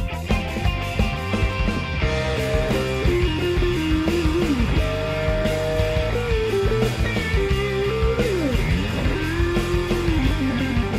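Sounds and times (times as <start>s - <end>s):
rock music with guitar melody: 0.0s - 10.9s.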